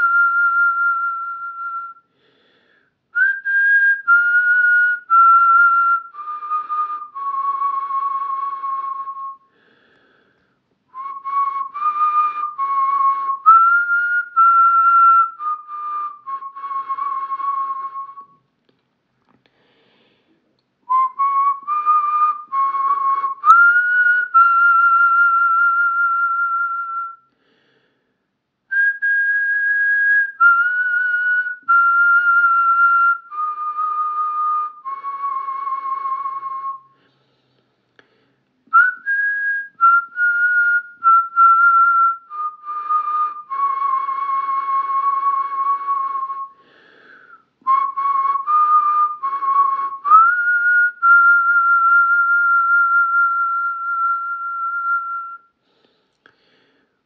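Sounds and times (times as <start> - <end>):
person whistling a melody: 0.0 - 2.1, 2.7 - 9.6, 10.9 - 18.4, 20.9 - 27.4, 28.7 - 37.0, 38.7 - 55.6.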